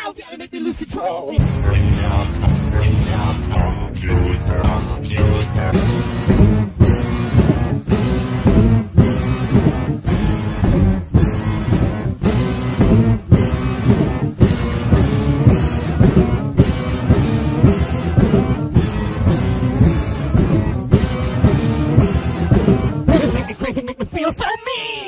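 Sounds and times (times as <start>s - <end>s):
lo-fi rock guitar and drums: 1.4s - 24.6s.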